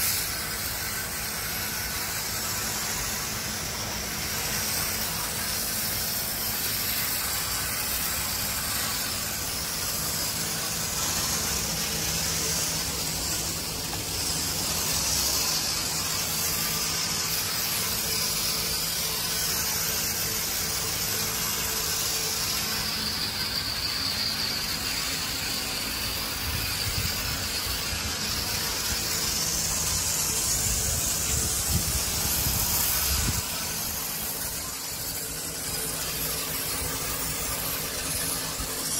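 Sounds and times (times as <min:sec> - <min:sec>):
sprayer pump humming: 0:00.0 - 0:38.9
water jet hissing: 0:00.0 - 0:38.9.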